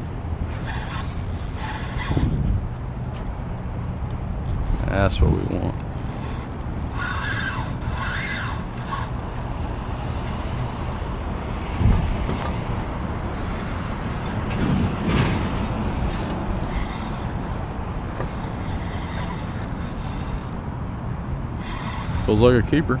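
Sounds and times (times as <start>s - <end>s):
fishing reel whirring: 0.0s - 2.4s, 3.2s - 14.5s, 15.4s - 20.6s, 21.6s - 22.5s.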